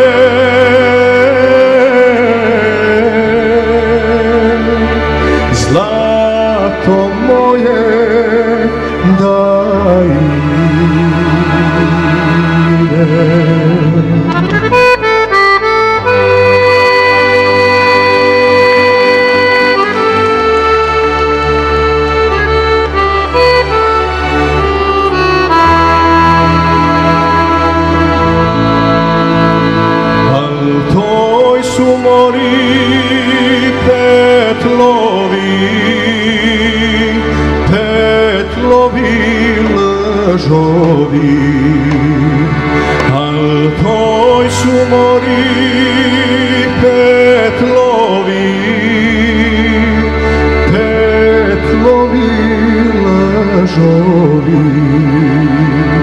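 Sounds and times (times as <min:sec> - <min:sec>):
man singing into a microphone: 0:00.0 - 0:23.8, 0:24.6 - 0:56.0
accordion playing: 0:00.0 - 0:56.0.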